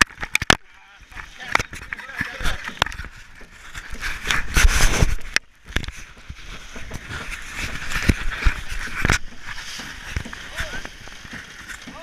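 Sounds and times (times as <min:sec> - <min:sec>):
wind and water rushing: 0:00.0 - 0:12.0
rubbing over camera: 0:01.1 - 0:12.0.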